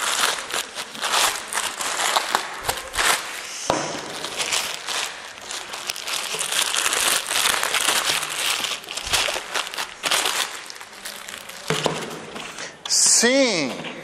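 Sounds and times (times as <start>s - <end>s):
plastic bags crinkling: 0.0s - 12.7s.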